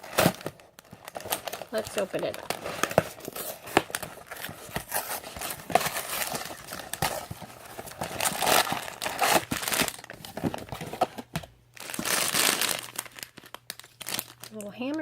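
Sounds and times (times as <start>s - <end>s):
cardboard box tearing: 0.0s - 13.2s
plastic bags crinkling: 0.0s - 15.0s.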